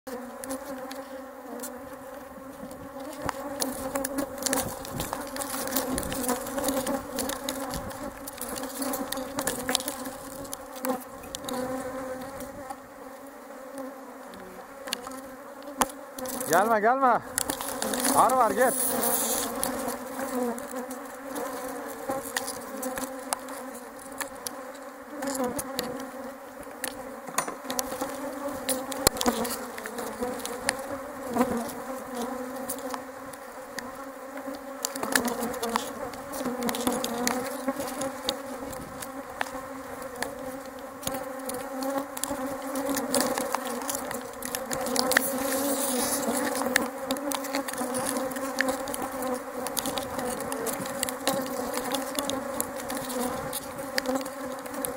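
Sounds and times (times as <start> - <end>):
bees buzzing: 0.1 - 54.9.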